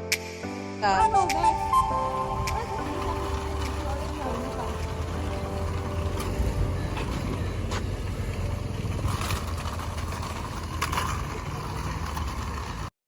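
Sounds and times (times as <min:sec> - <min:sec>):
vehicle engine rumbling: 0:01.1 - 0:13.0.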